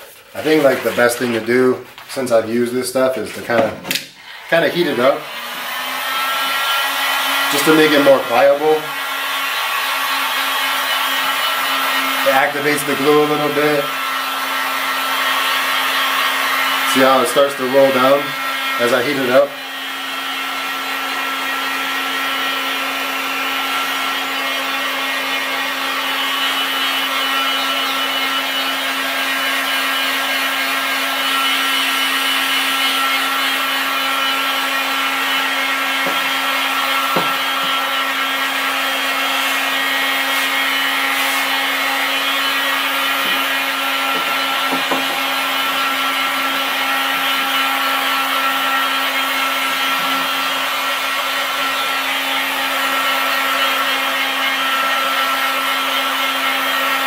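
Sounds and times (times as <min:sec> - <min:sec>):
heat gun blowing: 0:00.0 - 0:57.0.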